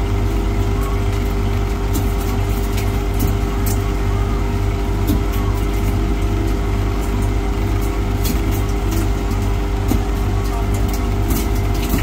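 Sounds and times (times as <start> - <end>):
ice maker humming: 0.0 - 12.0.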